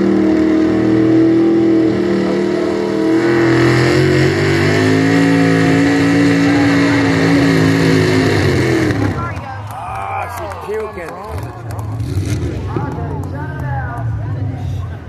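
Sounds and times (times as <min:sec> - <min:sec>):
truck engine at high revs: 0:00.0 - 0:15.0.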